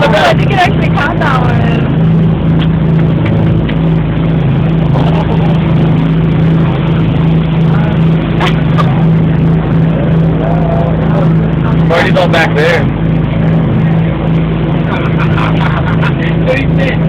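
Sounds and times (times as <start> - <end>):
motorboat engine humming: 0.0 - 17.0
wind and water rushing: 0.0 - 17.0.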